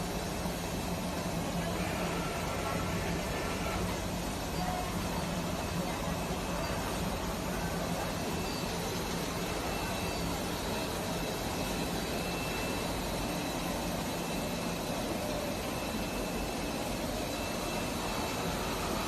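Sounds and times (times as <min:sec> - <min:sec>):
faint high whining tones: 0:00.0 - 0:19.0.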